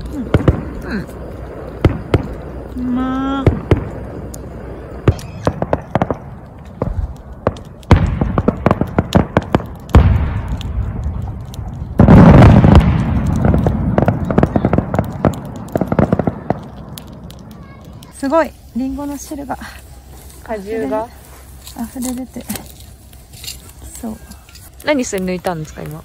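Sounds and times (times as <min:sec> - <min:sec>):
firework crackles: 0:00.0 - 0:26.0.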